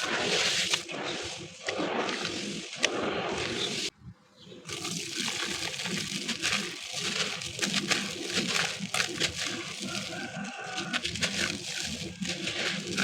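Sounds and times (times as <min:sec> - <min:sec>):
wet concrete crunching in water: 0:00.0 - 0:03.9, 0:04.7 - 0:13.0.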